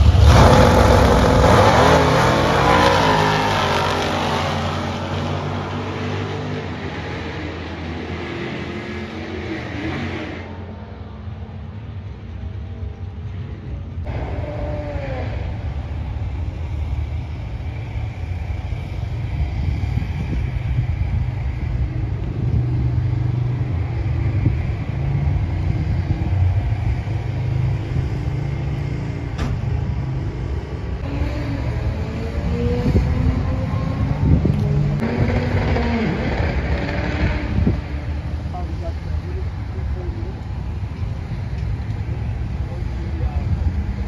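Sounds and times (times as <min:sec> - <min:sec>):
car engines rumbling: 0:00.0 - 0:44.0.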